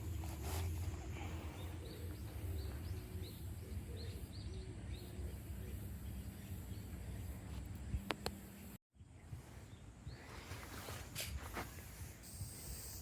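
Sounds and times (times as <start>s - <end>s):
bird chirping: 0.0s - 10.5s.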